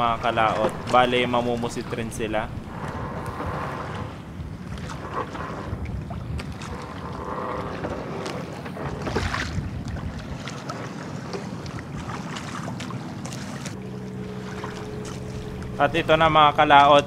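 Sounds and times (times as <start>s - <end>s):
faint hum of boat engines: 0.0s - 17.0s
water slapping: 0.0s - 17.0s
wind rumbling on microphone: 0.0s - 17.0s.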